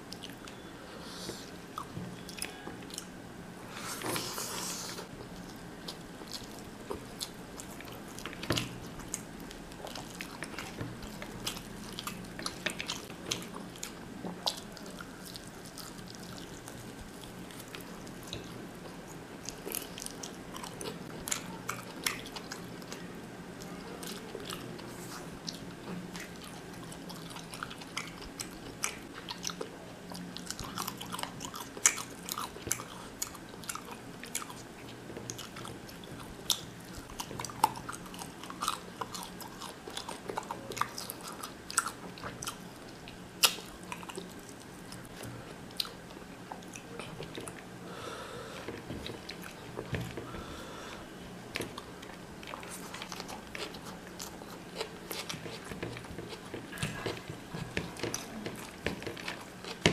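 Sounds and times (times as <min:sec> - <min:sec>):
man chewing with mouth smacks: 0:00.0 - 0:03.2, 0:03.9 - 0:59.9
faint steady hum: 0:00.0 - 0:59.9.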